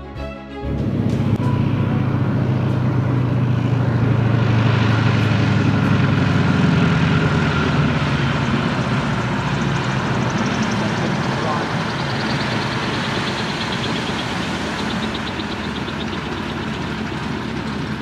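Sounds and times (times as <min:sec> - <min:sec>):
propeller engine drone: 0:00.0 - 0:18.0.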